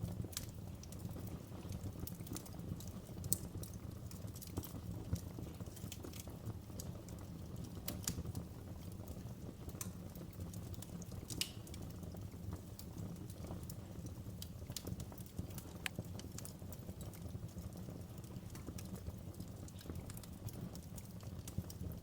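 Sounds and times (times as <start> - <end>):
fire flames rumbling: 0.0 - 22.0
wood fire crackling and popping: 0.0 - 22.0.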